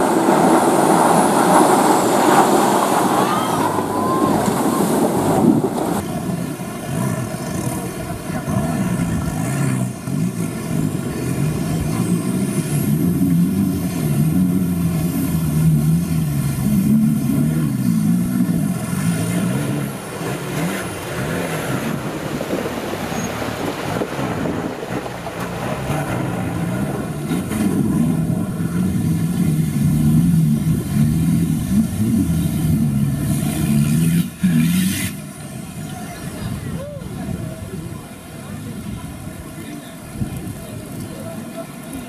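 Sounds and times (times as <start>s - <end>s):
off-road vehicle engine revving: 0.0s - 42.0s
water splashing around wheels: 0.0s - 42.0s.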